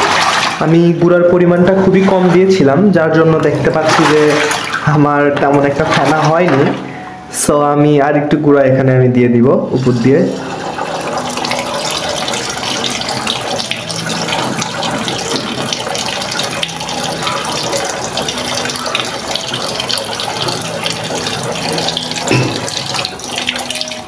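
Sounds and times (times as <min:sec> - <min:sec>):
water pouring into washing machine: 0:00.0 - 0:06.9, 0:09.8 - 0:24.0.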